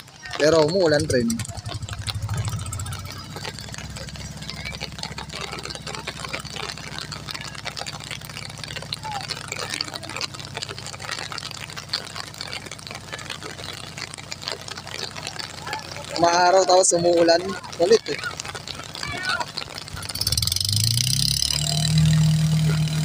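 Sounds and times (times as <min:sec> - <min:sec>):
raindrops ticking: 0:00.0 - 0:23.0
low engine hum: 0:00.9 - 0:16.2, 0:17.5 - 0:23.0.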